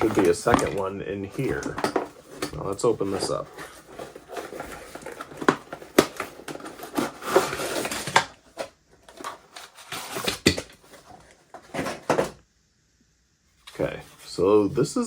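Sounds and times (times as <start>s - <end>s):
packaging rustling and crinkling: 0.0s - 12.4s.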